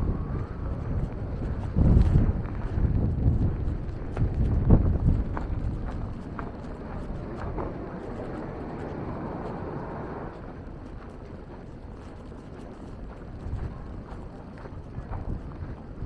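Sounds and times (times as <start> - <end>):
outdoor street noise: 0.0 - 16.0
faint footsteps: 0.1 - 16.0.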